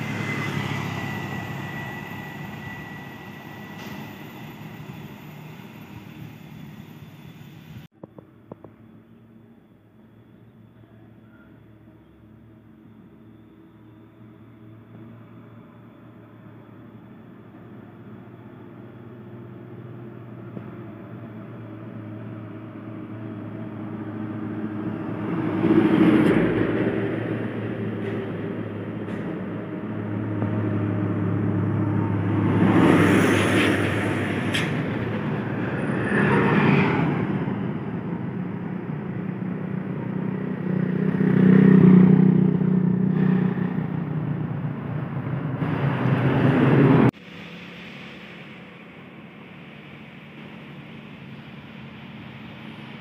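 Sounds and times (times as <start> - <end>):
trucks and buses driving past: 0.0 - 53.0.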